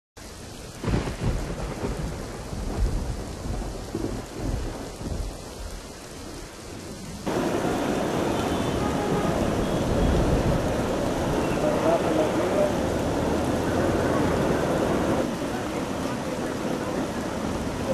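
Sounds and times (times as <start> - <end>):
heavy rain: 0.2 - 17.9
thunder rumbling: 0.7 - 17.9.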